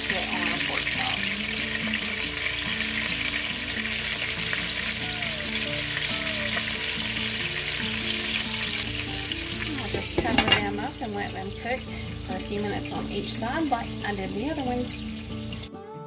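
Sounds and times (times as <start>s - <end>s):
pork chops sizzling in a skillet: 0.0s - 15.7s.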